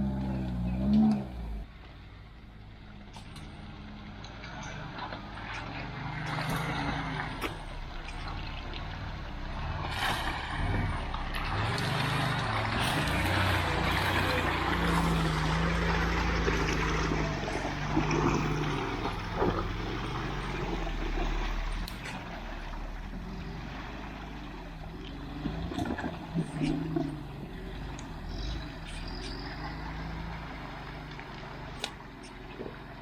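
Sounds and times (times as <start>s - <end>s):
off-road vehicle engine revving: 0.0s - 1.7s, 2.8s - 33.0s.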